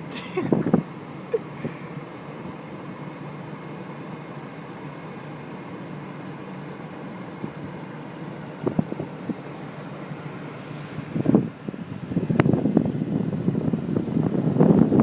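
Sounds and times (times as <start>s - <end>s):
car engine and tyres: 0.0s - 15.0s.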